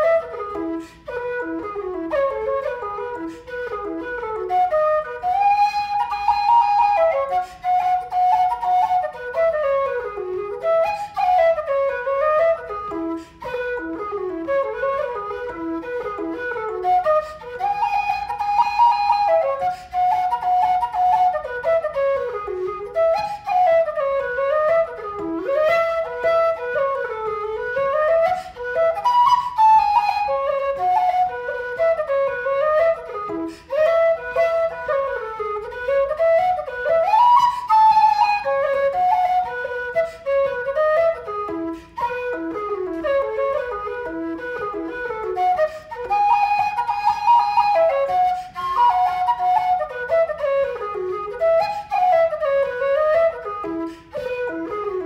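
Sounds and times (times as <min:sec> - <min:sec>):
low whistle folk tune: 0:00.0 - 0:55.0.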